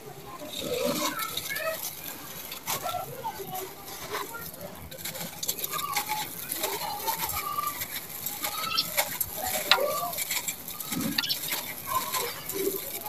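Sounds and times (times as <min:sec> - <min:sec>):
sand and gravel crunching: 0:00.3 - 0:13.0.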